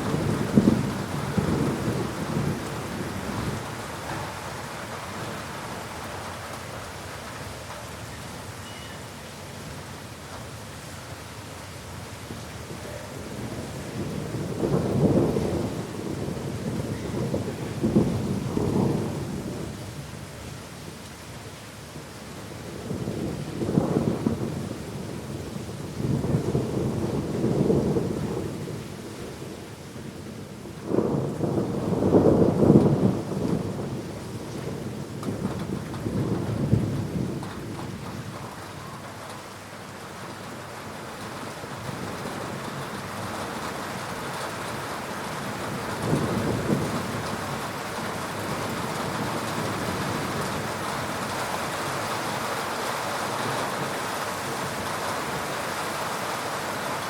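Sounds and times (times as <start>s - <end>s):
thunder rumbling: 0.0s - 6.6s, 12.7s - 19.9s, 22.6s - 29.6s, 30.3s - 39.7s, 40.3s - 57.0s
steady rain: 0.0s - 57.0s.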